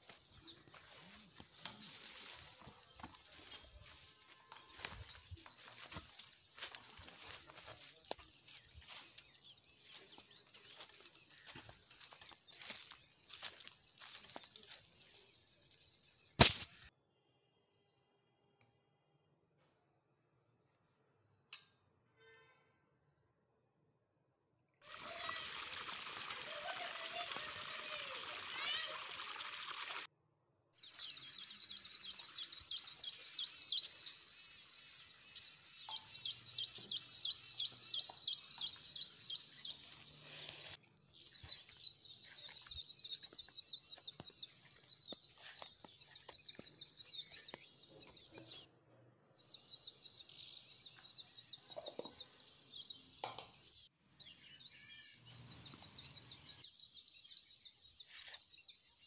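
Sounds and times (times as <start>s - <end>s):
small birds chirping: 0.0s - 18.0s, 24.8s - 30.1s, 30.8s - 59.0s.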